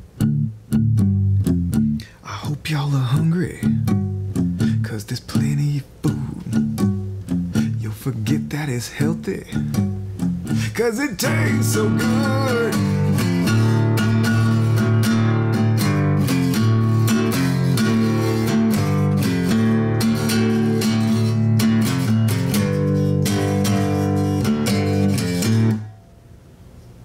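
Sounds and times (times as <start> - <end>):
acoustic guitar strumming blues: 0.0 - 26.1.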